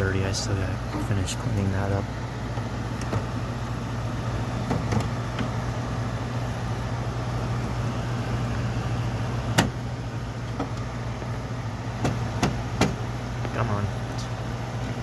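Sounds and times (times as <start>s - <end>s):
air conditioner compressor hum: 0.0s - 15.0s
air conditioner fan noise: 0.0s - 15.0s.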